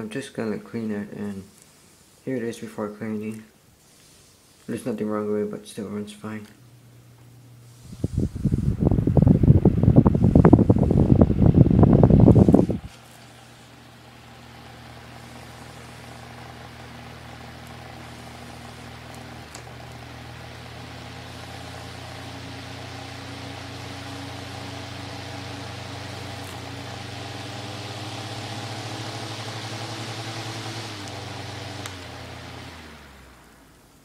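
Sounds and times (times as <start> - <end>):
electric fan running: 0.0 - 34.0.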